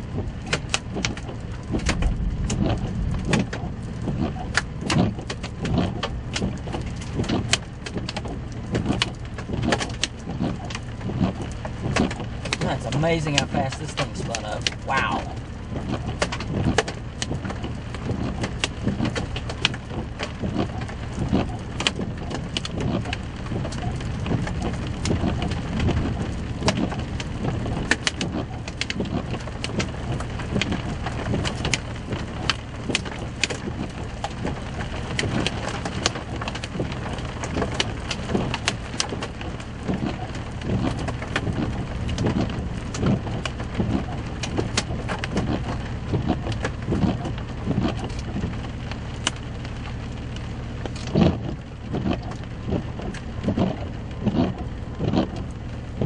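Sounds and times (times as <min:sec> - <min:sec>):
raindrops tapping on truck: 0:00.0 - 0:56.0
steady low rumble: 0:00.0 - 0:56.0.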